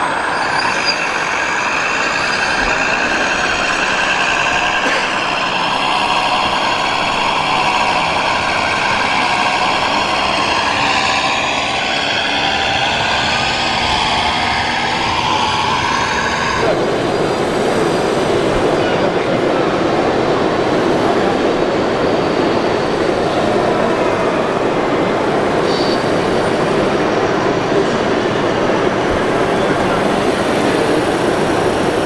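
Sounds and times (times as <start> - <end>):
murmur of crowd: 0.0 - 32.0
simulated truck engine noise: 0.0 - 32.0.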